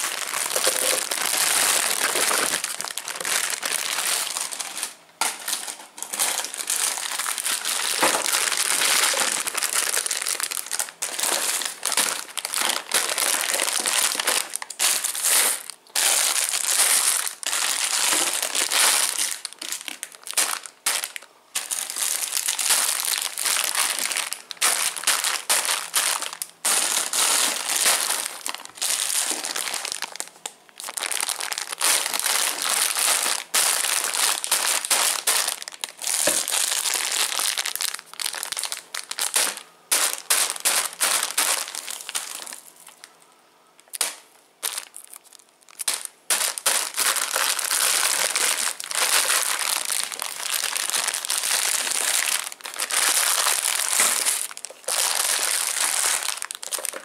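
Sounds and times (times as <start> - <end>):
candy wrappers crinkling: 0.0 - 57.0.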